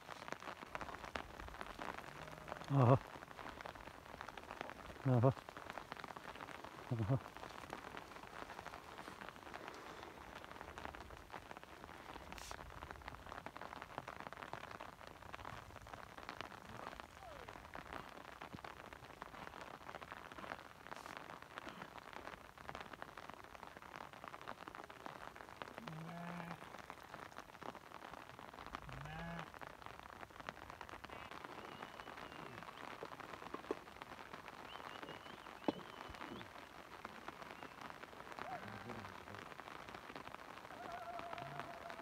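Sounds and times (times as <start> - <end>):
light rain pattering: 0.0 - 42.0.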